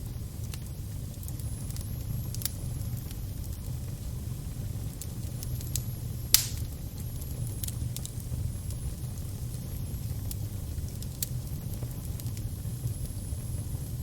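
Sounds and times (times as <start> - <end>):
crackling fire: 0.0 - 14.0
fire popping: 0.0 - 14.0.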